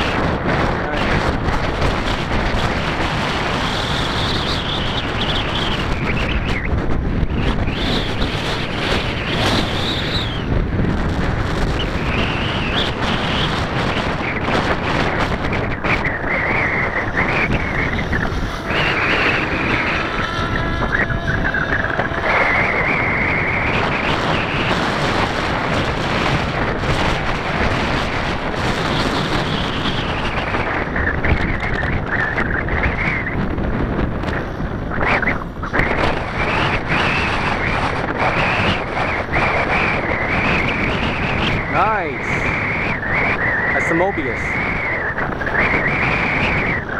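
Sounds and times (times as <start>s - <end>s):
wind on microphone: 0.0s - 46.9s
model aircraft motor whine: 1.1s - 41.9s.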